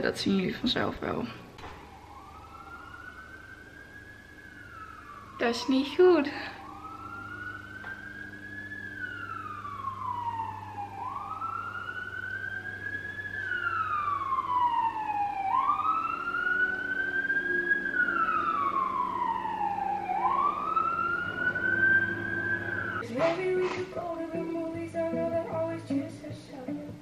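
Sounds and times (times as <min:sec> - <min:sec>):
siren wailing: 0:01.5 - 0:23.8.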